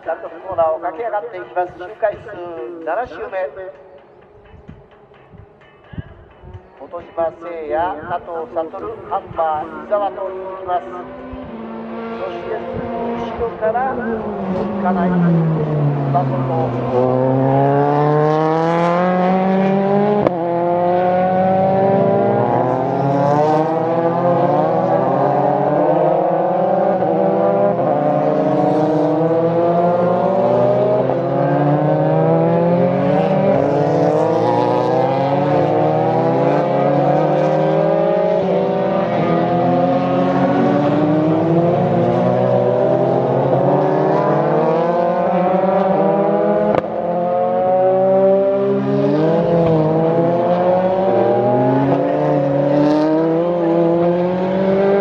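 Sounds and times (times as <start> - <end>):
race cars accelerating: 0.0 - 55.0.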